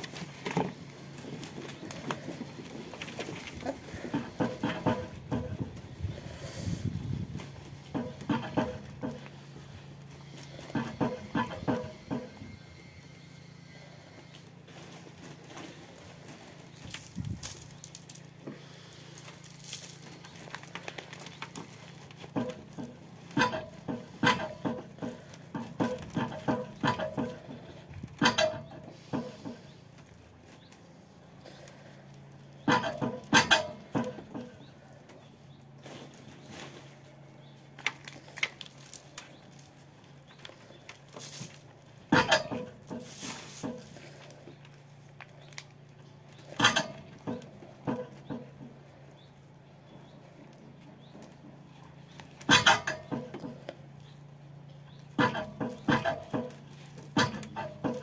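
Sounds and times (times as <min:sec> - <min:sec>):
soil rustling: 0:00.0 - 0:58.0.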